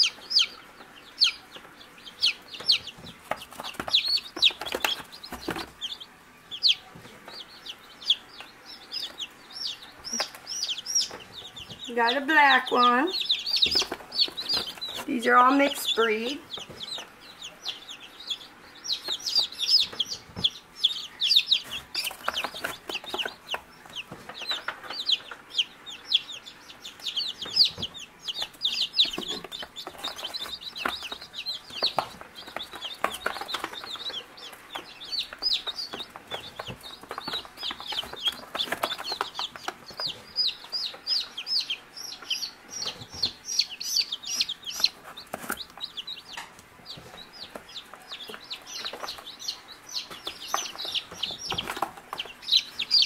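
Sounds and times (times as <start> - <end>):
chicks peeping: 0.0 - 53.0.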